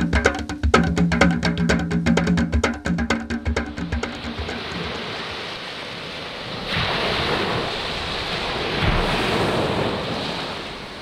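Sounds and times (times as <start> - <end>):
ocean waves breaking on shore: 0.0 - 11.0.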